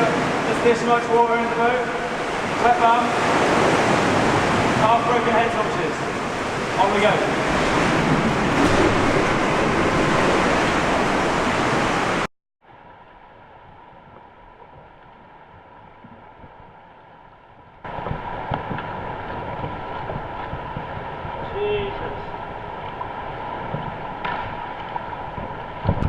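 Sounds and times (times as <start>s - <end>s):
sea waves: 0.0s - 14.0s, 17.6s - 26.0s.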